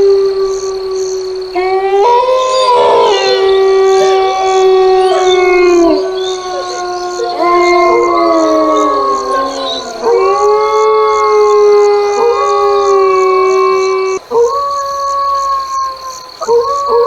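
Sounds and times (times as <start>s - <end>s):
canines howling together: 0.0s - 17.0s.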